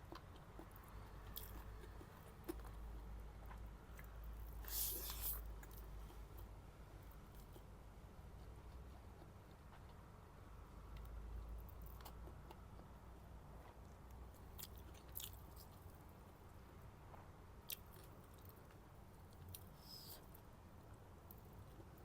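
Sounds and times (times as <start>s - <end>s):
faint chewing: 0.0s - 10.1s, 10.9s - 20.5s
low steady hum: 0.0s - 22.0s.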